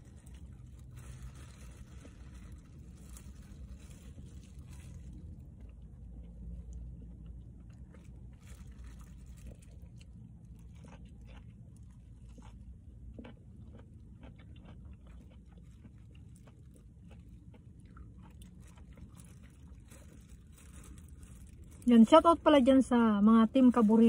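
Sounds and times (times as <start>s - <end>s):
wet chewing and smacking: 0.0s - 21.9s
steady low rumble: 0.0s - 24.0s.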